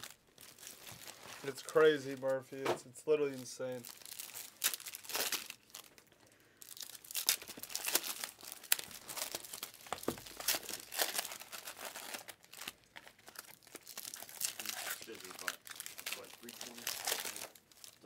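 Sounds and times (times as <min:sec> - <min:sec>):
crinkly packaging rustles: 0:00.0 - 0:18.0.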